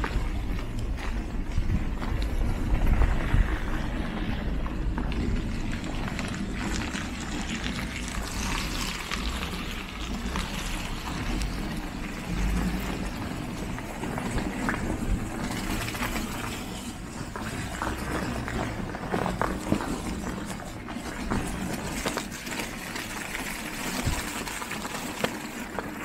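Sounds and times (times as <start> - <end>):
footsteps on slushy pavement: 0.0 - 26.0
low street rumble: 0.0 - 26.0.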